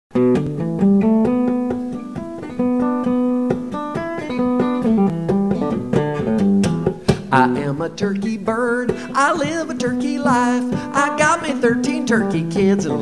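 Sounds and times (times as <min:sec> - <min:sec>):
guitar picking single notes: 0:00.1 - 0:13.0.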